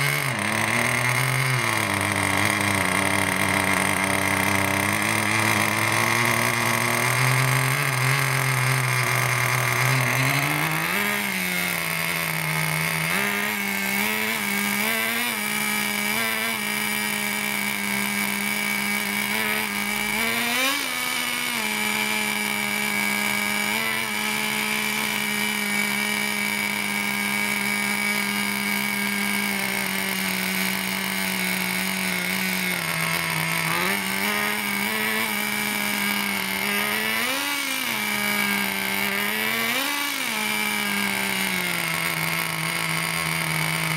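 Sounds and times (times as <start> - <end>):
small nitro engine running: 0.0 - 43.9.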